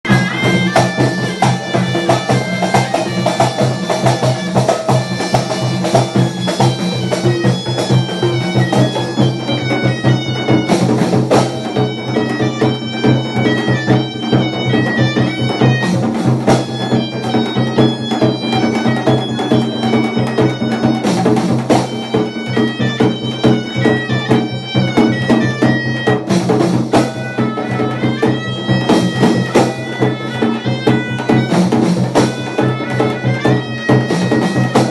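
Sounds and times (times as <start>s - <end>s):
drums and hand percussion: 0.0s - 34.9s
shawms playing nasal melody: 0.0s - 34.9s.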